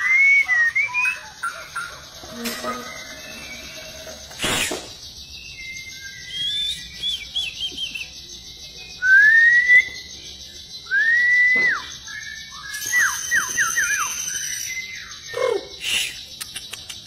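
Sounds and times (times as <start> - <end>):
bird singing whistles: 0.0 - 1.8, 2.8 - 16.5.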